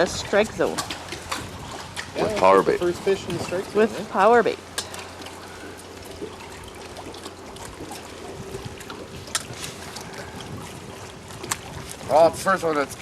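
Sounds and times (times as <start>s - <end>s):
water lapping around a boat: 0.0s - 13.0s.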